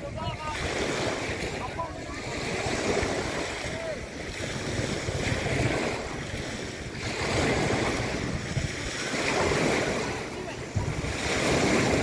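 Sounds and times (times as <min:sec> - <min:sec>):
waves breaking on rocky shore: 0:00.0 - 0:12.0
wind buffeting microphone: 0:00.0 - 0:12.0.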